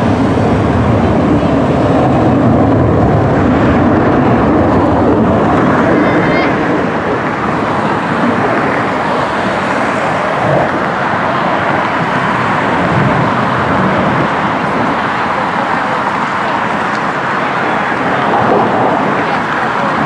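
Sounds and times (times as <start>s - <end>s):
jet engine roar overhead: 0.0s - 20.0s.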